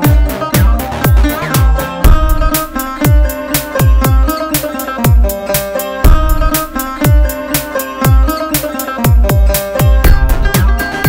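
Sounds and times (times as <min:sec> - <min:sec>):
deep kick drum beat: 0:00.0 - 0:11.0
plucked string notes: 0:00.0 - 0:11.0.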